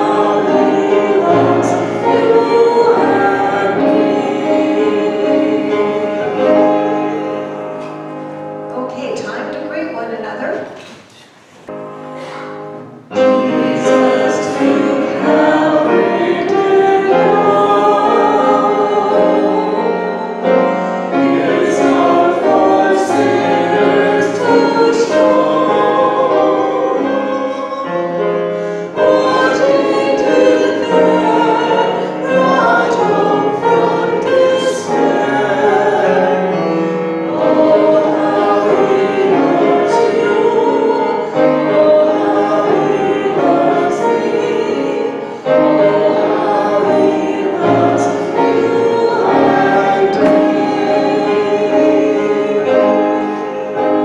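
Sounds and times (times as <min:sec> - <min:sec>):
congregation singing a hymn: 0:00.0 - 0:09.6, 0:10.6 - 0:54.0.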